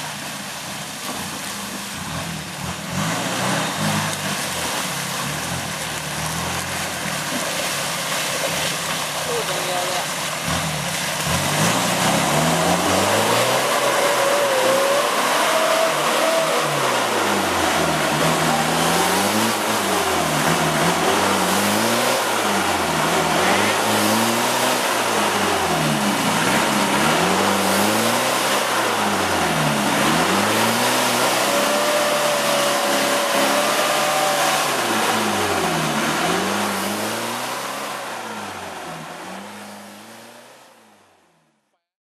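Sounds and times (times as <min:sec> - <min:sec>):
off-road engine revving: 0:00.0 - 0:41.2.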